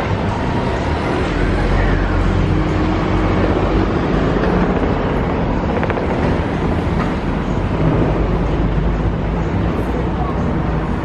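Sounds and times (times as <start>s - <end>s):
low engine hum: 0.0s - 11.0s
vehicle engines rumbling: 0.0s - 11.0s.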